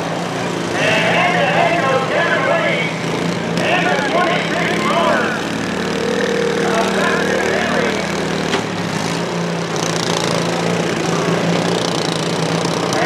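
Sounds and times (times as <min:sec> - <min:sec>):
lawn mower engines droning: 0:00.0 - 0:13.0.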